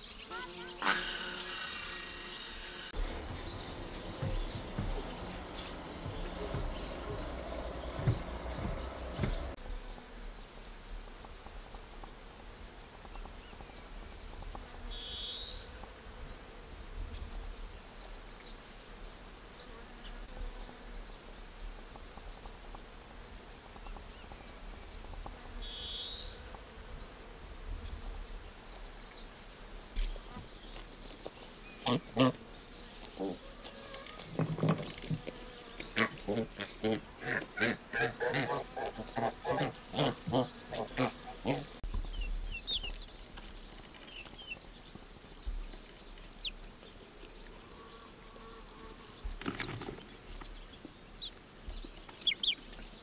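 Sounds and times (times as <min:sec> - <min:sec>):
insects buzzing: 0:00.0 - 0:53.0.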